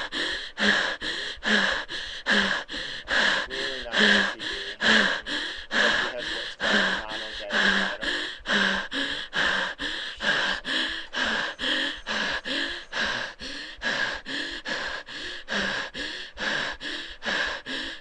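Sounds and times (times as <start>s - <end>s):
patient breathing noisily: 0.0s - 18.0s.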